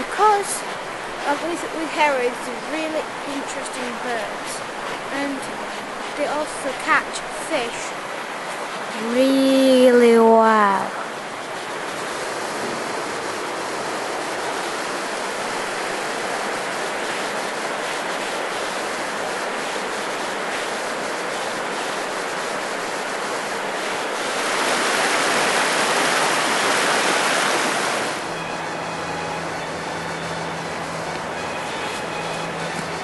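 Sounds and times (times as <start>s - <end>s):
river water rushing: 0.0s - 9.3s, 10.2s - 28.8s.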